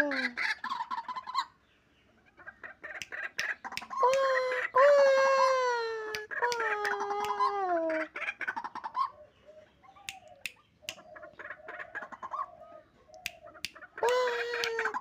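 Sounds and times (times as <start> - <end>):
chicken calling softly: 0.0 - 15.0.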